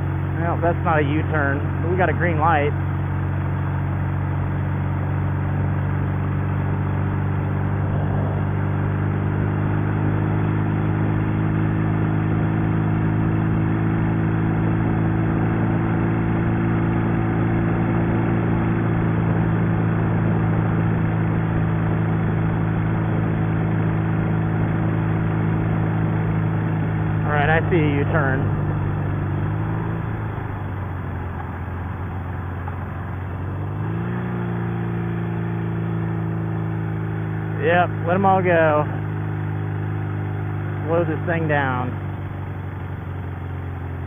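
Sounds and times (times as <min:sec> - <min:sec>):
motorcycle engine running: 0:00.0 - 0:44.0
wind and road rush: 0:00.0 - 0:44.0.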